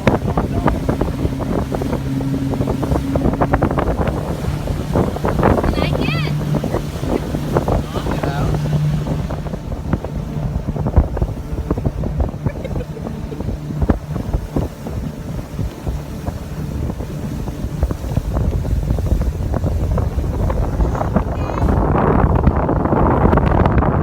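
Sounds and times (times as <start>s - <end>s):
boat engine hum: 0.0s - 24.0s
wind buffeting microphone: 0.0s - 24.0s.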